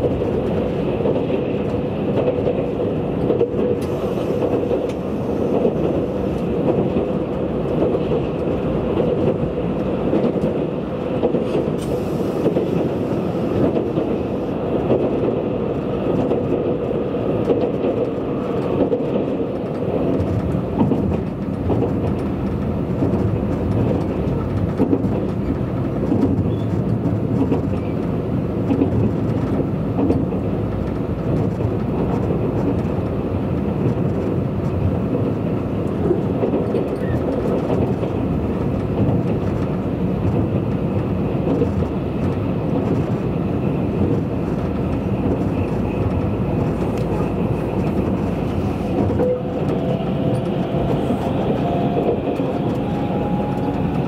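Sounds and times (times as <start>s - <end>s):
train hum: 0.0s - 54.0s
train wheels rumbling on rail: 0.0s - 54.0s.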